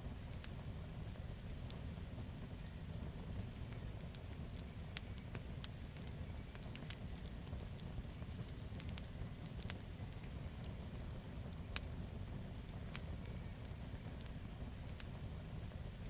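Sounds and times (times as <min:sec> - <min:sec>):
campfire rumbling: 0:00.0 - 0:16.0
wood crackling and popping: 0:00.0 - 0:16.0.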